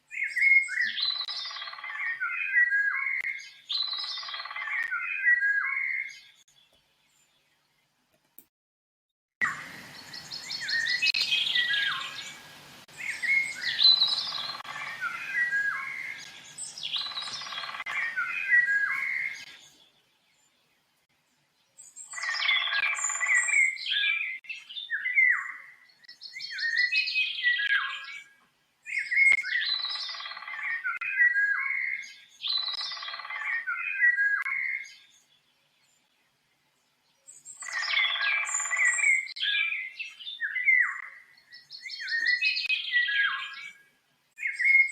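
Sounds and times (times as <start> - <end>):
songbird singing: 0.0 - 8.4, 9.4 - 44.9.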